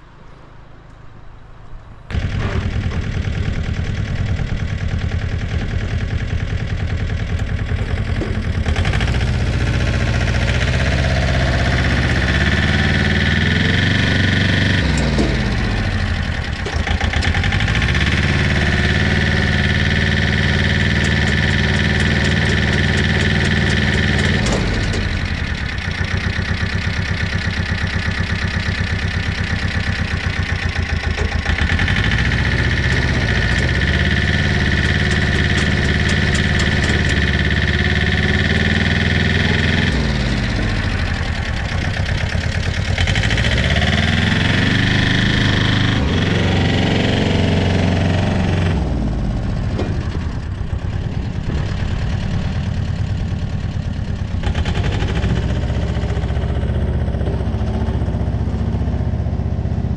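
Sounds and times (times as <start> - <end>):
engine idling and revving: 1.5 - 59.9.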